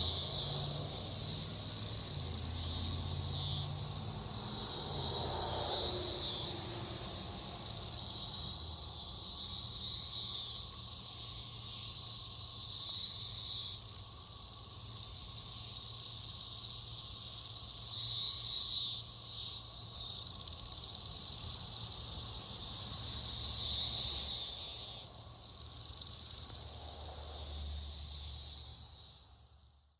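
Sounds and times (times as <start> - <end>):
cicadas buzzing: 0.0 - 29.9.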